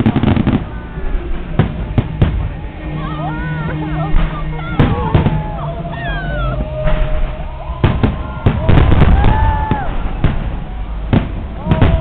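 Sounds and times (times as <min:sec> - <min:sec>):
fireworks bangs and crackling: 0:00.0 - 0:12.0
fireworks whistling: 0:00.0 - 0:12.0.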